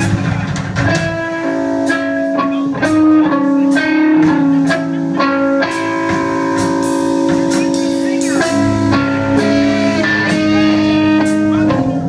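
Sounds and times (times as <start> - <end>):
electric guitar picking notes: 0.0 - 12.0
sustained guitar chords: 0.0 - 12.0.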